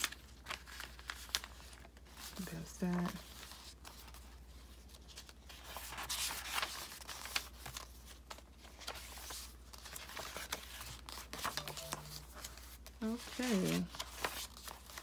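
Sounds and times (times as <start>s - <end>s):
paper pages rustling and crinkling: 0.0s - 15.0s.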